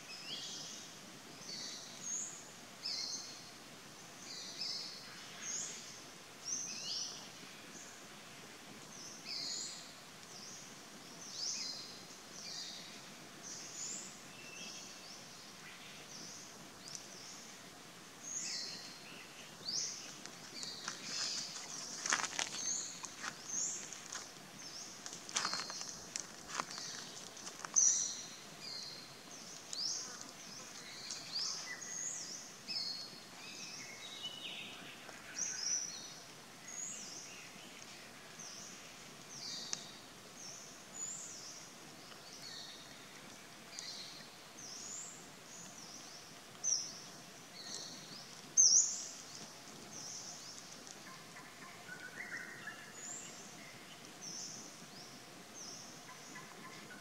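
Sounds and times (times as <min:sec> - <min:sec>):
birds chirping: 0:08.9 - 0:57.0.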